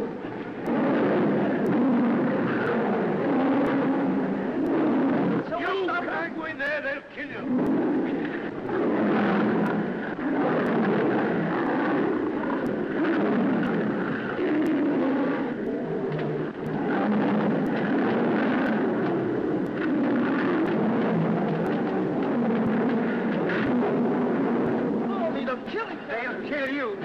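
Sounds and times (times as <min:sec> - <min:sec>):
big cats snarling and growling: 0:00.0 - 0:06.5, 0:07.2 - 0:27.0
faint film soundtrack clicks: 0:00.0 - 0:27.0.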